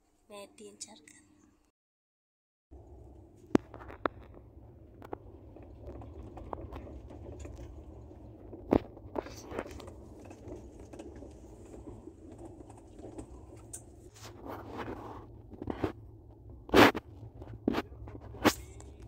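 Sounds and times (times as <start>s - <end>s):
train interior rumble: 2.8s - 19.0s.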